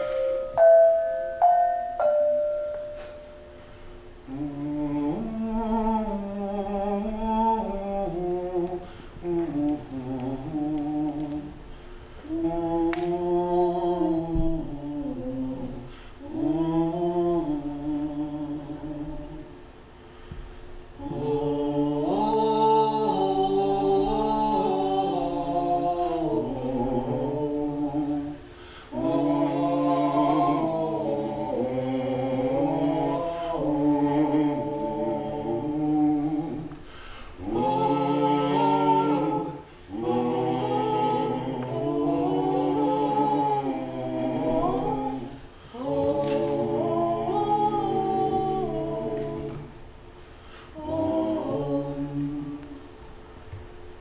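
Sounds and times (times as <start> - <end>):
voices singing in harmony: 0.0 - 20.2, 20.8 - 53.1.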